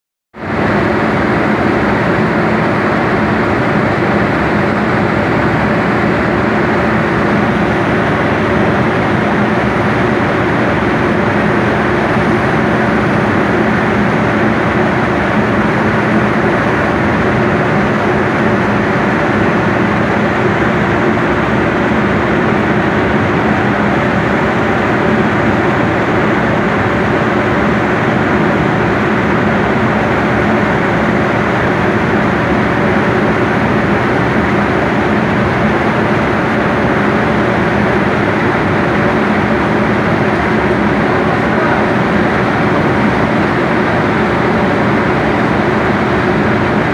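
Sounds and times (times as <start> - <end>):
dryer mechanical drone: 0.4 - 46.9.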